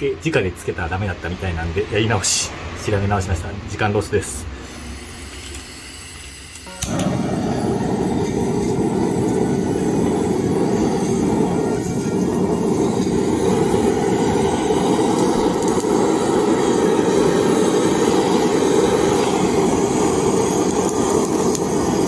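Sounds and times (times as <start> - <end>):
gas torch flame rushing: 4.1 - 22.0.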